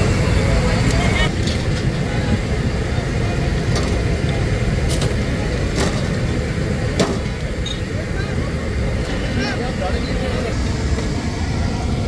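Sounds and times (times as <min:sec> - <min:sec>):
street and kitchen noise: 0:00.0 - 0:12.0.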